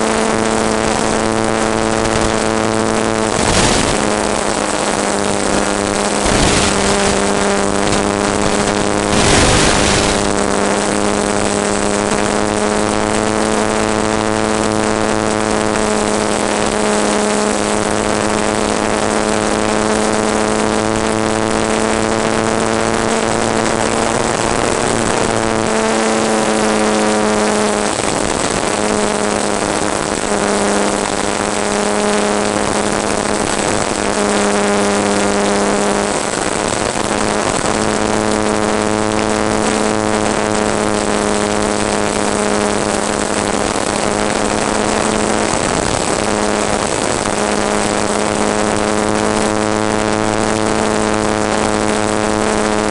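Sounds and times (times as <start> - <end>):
model aircraft motor humming: 0.0 - 52.9.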